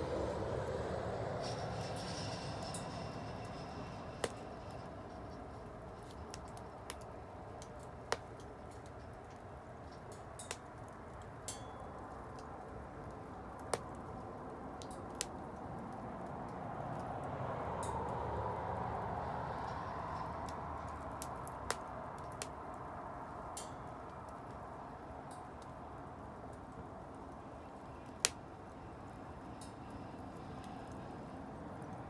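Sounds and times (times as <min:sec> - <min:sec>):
bonfire crackling: 0:00.0 - 0:32.0.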